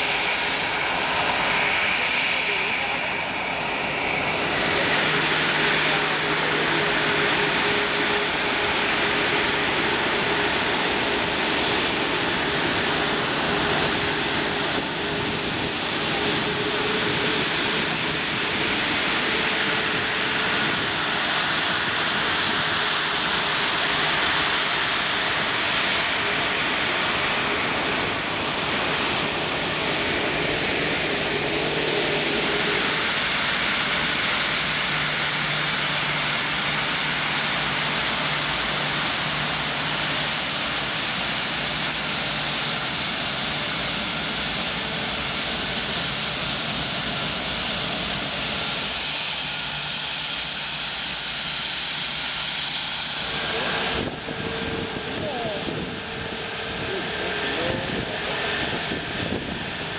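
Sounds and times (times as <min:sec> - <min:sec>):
faint jet engine whine: 0:00.0 - 0:59.9
jet engines running: 0:00.0 - 0:59.9.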